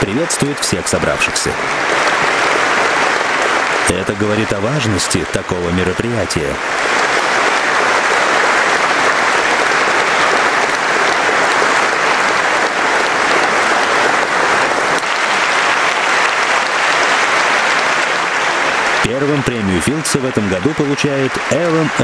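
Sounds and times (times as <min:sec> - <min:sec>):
large audience applauding: 0:00.0 - 0:22.0.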